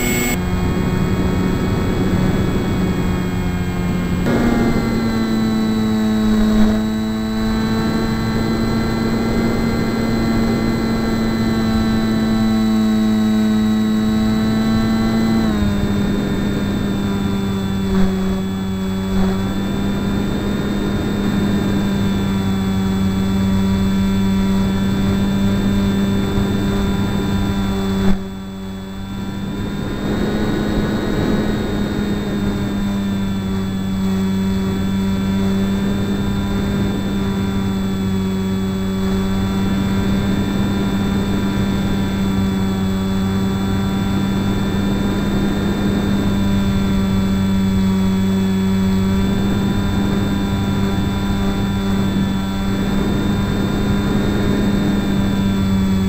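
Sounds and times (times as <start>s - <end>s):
electric motor and propeller whine: 0.0s - 56.0s.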